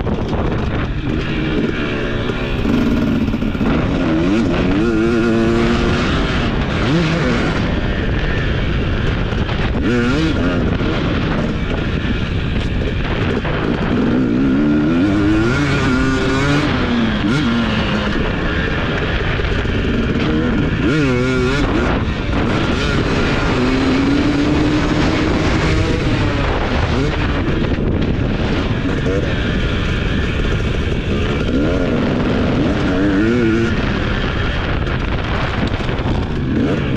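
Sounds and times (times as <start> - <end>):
motocross bike engine revving: 0.0 - 36.9
steady rush of noise: 0.0 - 36.9.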